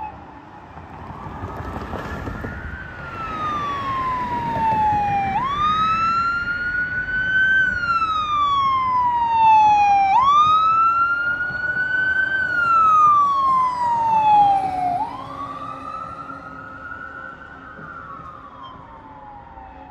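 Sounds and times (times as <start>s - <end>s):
fire engine siren wailing: 0.0s - 19.9s.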